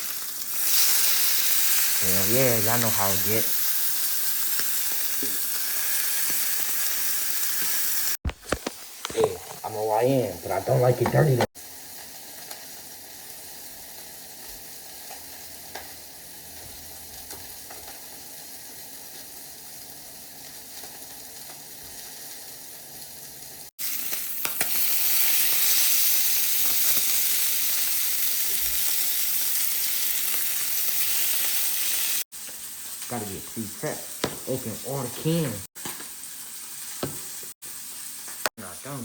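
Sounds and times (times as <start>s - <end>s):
meat sizzling in a pan: 0.0s - 8.2s, 11.4s - 39.0s.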